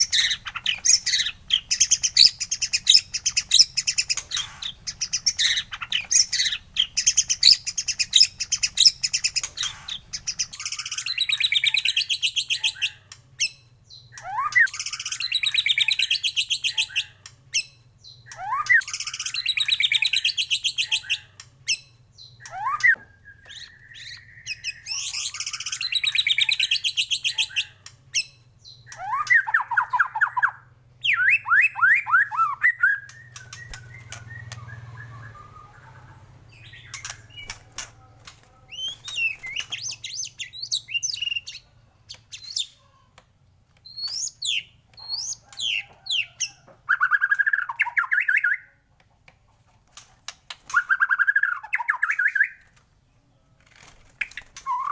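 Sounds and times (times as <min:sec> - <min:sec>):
bird chirping rapidly: 0:00.0 - 0:37.8, 0:38.7 - 0:41.6, 0:43.8 - 0:48.6, 0:54.2 - 0:54.9
bird song whistles and trills: 0:00.0 - 0:37.8, 0:38.7 - 0:42.8, 0:43.8 - 0:48.8, 0:50.6 - 0:52.8, 0:54.2 - 0:54.9.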